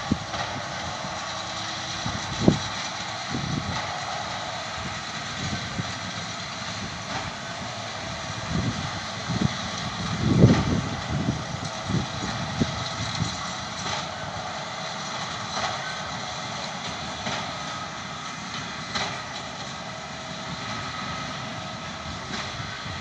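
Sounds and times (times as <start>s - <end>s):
tractor and baler drone: 0.0s - 23.0s.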